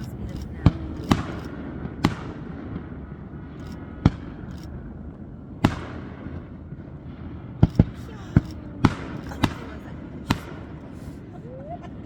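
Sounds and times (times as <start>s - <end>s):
firework bangs: 0.0s - 12.0s
steady background noise: 0.0s - 12.0s.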